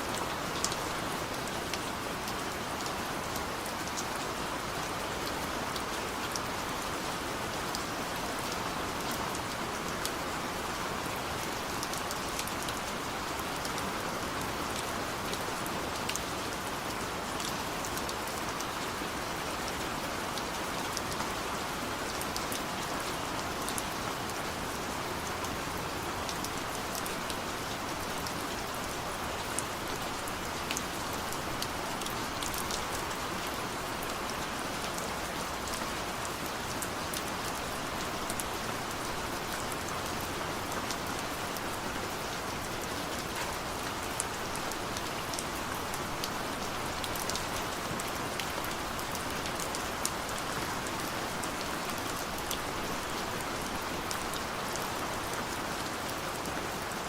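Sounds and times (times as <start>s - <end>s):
heavy rain on forest: 0.0s - 57.0s.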